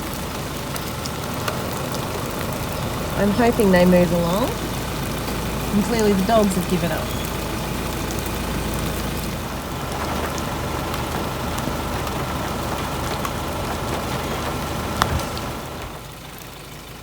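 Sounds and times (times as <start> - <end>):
car engine hum: 0.0 - 17.0
steady rain: 0.0 - 17.0.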